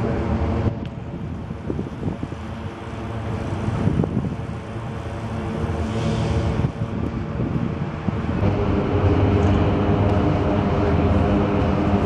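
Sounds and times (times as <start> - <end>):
steel tubes droning in wind: 0.0 - 12.0
wind rumbling on microphone: 0.0 - 12.0.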